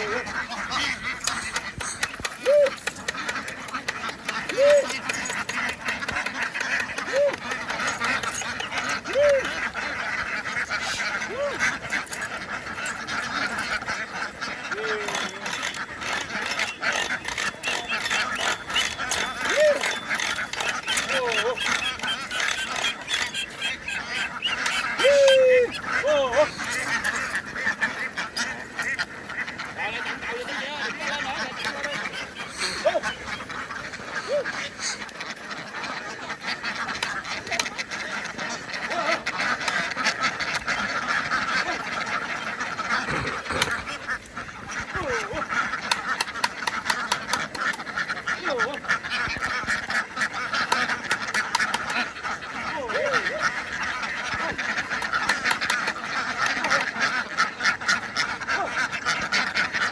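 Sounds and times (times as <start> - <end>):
drawn-out duck call: 0.0 - 59.9
ducks quacking: 0.0 - 59.9.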